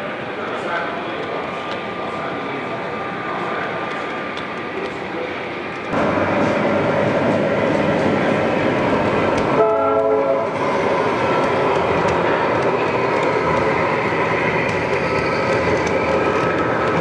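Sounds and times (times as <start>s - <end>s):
model train diesel engine sound: 0.0s - 17.0s
train rolling on track: 0.0s - 17.0s.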